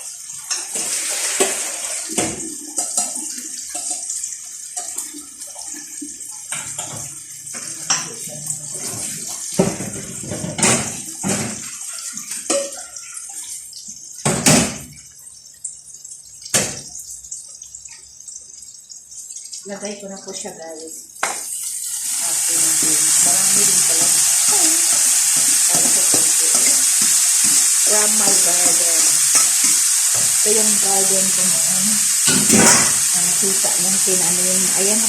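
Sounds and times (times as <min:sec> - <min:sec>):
tap water running into sink: 0:00.0 - 0:20.5, 0:21.2 - 0:35.0.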